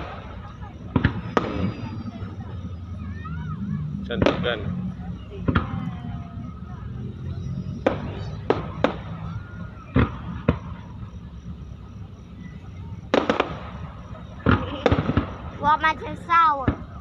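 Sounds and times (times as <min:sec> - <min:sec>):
fireworks bangs: 0:00.0 - 0:17.0
low background rumble: 0:00.0 - 0:17.0.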